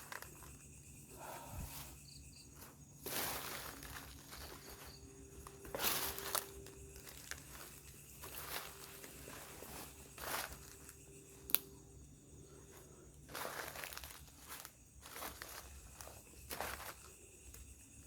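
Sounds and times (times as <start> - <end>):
insects chirring: 0.0 - 18.0
footsteps through undergrowth: 1.6 - 11.7, 12.4 - 17.6.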